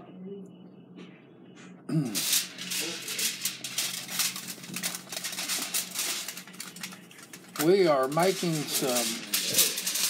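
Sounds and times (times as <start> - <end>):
foil bag crinkling: 1.9 - 10.0.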